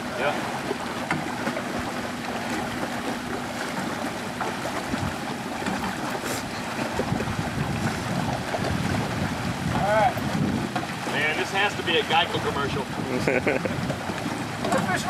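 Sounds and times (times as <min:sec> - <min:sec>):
water churning and splashing: 0:00.0 - 0:15.0.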